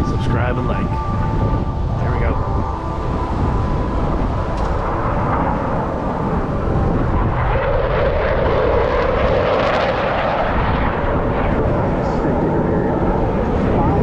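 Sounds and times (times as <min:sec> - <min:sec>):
airplane flying past: 0:00.0 - 0:14.0.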